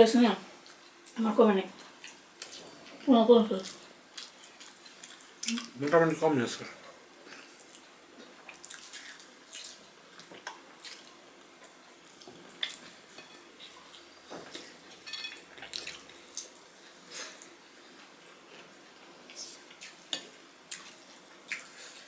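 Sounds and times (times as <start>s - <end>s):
people chewing and lip smacking: 1.8s - 5.8s, 6.8s - 22.0s.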